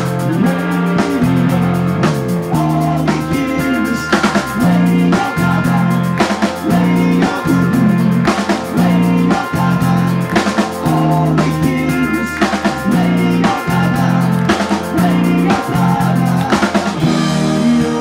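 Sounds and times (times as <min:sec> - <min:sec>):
drum kit beat: 0:00.0 - 0:18.0
sustained chords: 0:00.0 - 0:18.0.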